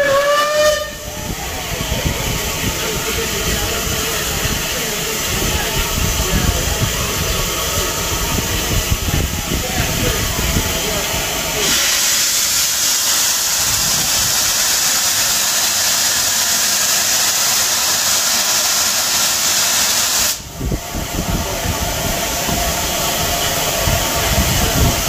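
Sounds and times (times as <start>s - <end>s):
locomotive venting steam hiss: 0.0s - 25.0s.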